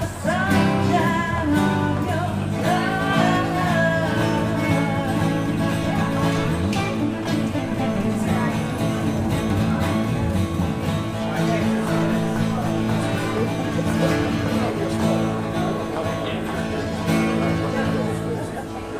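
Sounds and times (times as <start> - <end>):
small live band playing: 0.0 - 18.9
strummed acoustic guitar: 0.0 - 18.9.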